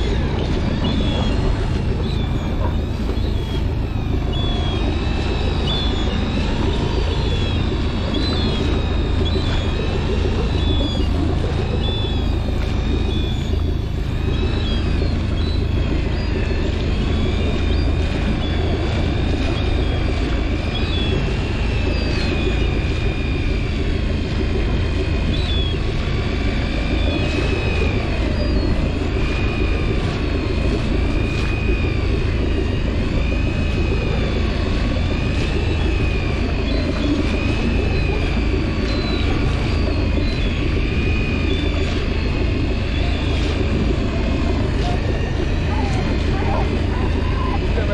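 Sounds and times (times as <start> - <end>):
boat engine rumbling: 0.0 - 47.9
thin high whine: 0.0 - 47.9.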